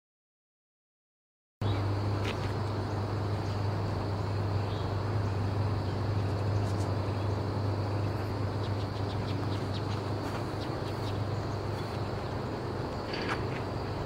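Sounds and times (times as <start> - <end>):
constant low hum: 1.6 - 14.0.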